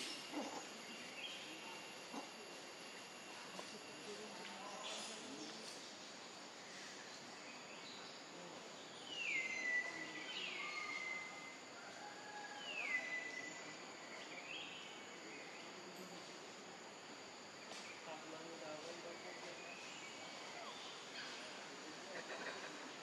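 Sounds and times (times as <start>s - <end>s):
faint insect hum: 0.0s - 23.0s.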